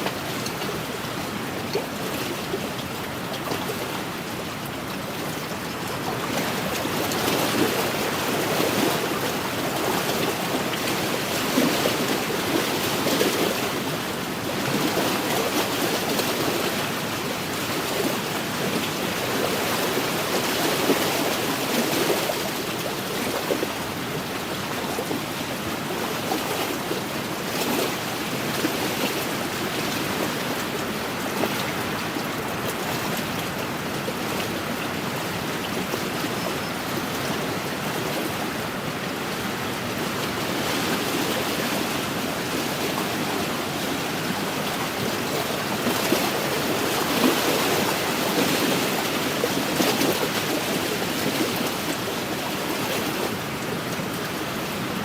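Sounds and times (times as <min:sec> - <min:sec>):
waves washing against shore: 0:00.0 - 0:55.0.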